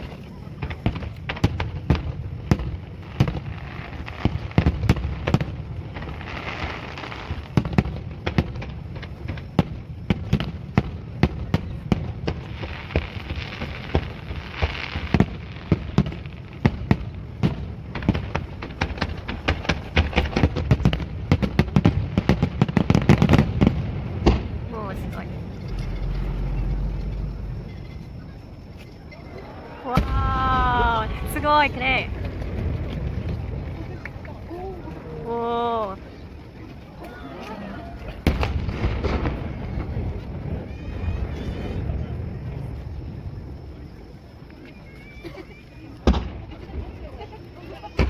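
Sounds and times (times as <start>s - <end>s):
fireworks booming: 0.0s - 48.0s
fizzing crackle of fireworks: 0.0s - 48.0s.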